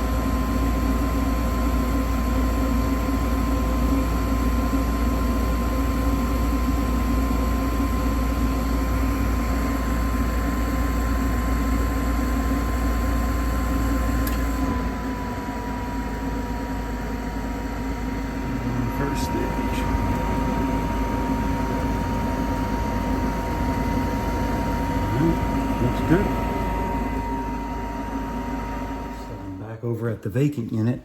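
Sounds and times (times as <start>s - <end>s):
gas furnace rumble and hum: 0.0s - 31.0s.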